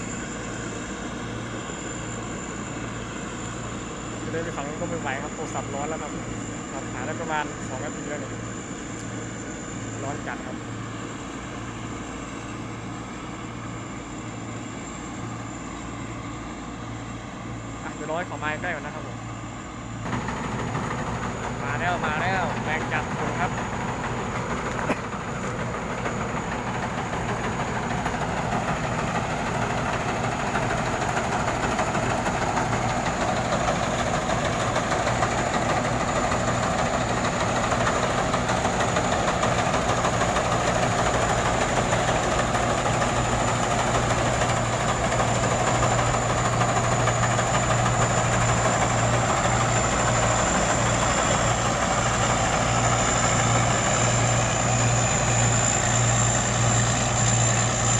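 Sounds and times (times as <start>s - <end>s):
combine harvester engine hum: 0.0s - 57.9s.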